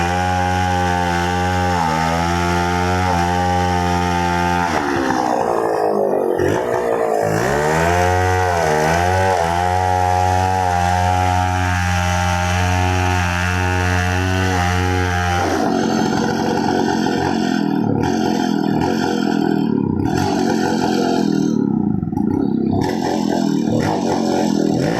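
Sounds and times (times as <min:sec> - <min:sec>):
chainsaw running: 0:00.0 - 0:24.9.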